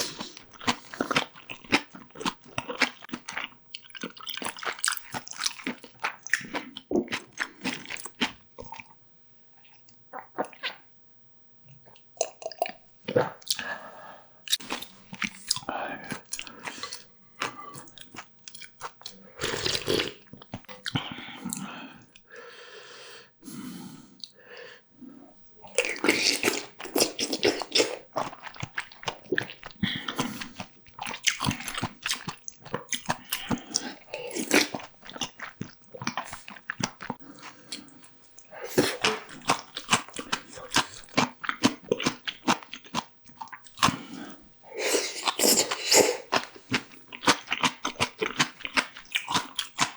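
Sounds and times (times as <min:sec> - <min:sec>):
chewing with crisp crunches: 0:00.0 - 0:09.0, 0:09.6 - 0:10.9, 0:11.7 - 0:22.3, 0:25.6 - 0:49.9.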